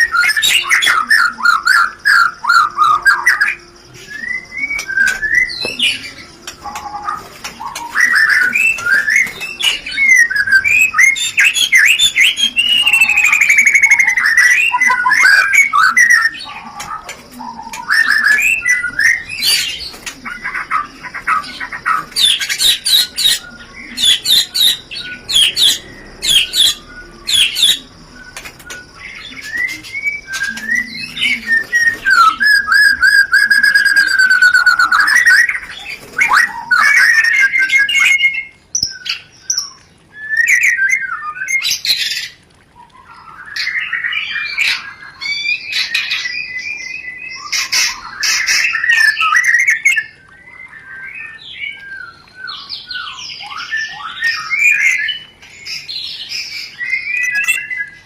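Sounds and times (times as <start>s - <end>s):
songbird singing whistled phrases: 0.0s - 58.0s.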